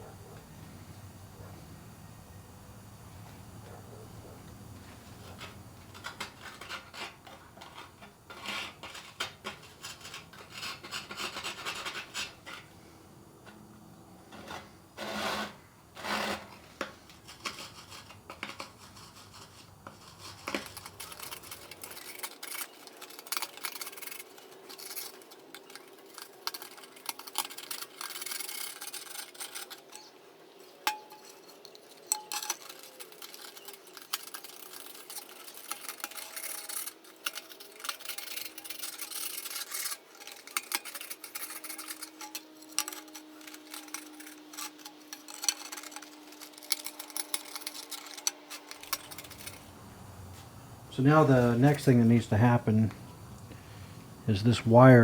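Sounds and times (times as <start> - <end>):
tool rasping firebrick: 3.2 - 55.0.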